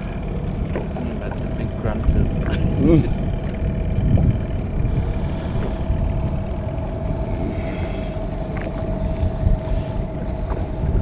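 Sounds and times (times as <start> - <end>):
fishing reel whirring: 0.0 - 10.2
faint hum: 0.0 - 11.0
rumble of wind and water: 0.0 - 11.0.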